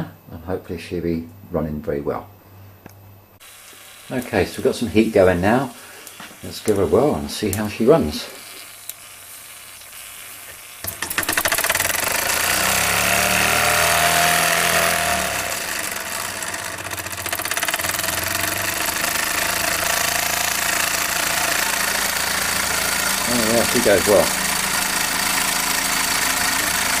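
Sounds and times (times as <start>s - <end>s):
toy steam engine clatter: 4.1s - 27.0s.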